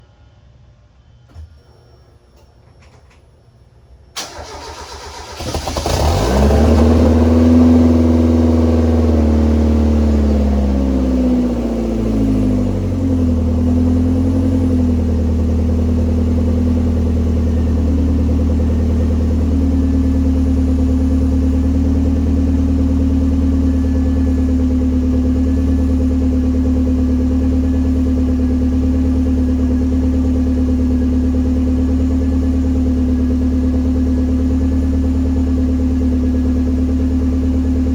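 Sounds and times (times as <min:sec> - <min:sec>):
car engine starting and idling: 0:04.2 - 0:37.9.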